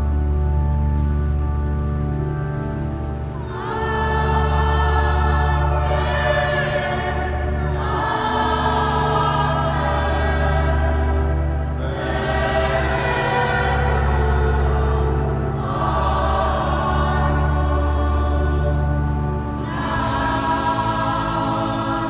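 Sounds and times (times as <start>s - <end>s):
organ chords: 0.0s - 22.0s
choir singing: 3.4s - 22.0s.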